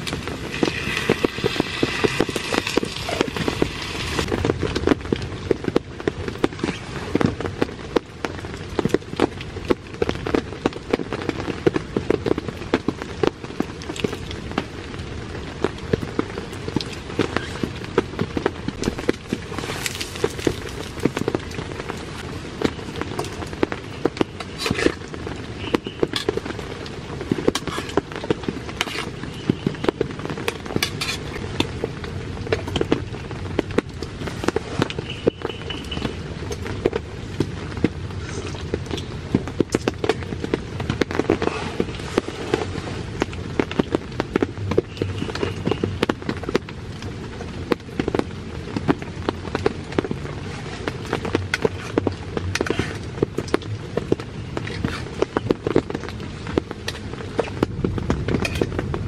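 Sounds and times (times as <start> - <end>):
rain falling on a tent: 0.0 - 59.0.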